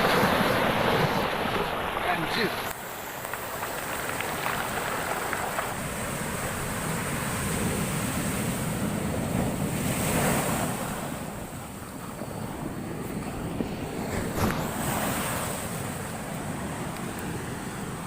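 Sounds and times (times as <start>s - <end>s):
storm surf breaking on shore: 0.0s - 18.0s
wind buffeting microphone: 0.0s - 18.0s.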